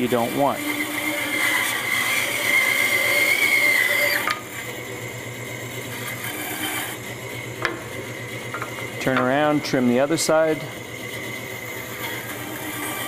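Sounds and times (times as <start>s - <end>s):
bandsaw blade cutting wood: 0.0s - 4.7s, 5.8s - 13.0s
saw motor hum: 0.0s - 13.0s.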